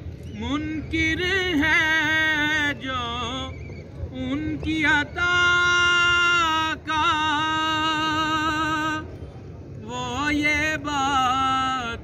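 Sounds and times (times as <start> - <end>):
man singing: 0.3 - 3.6, 4.2 - 9.1, 9.8 - 12.0.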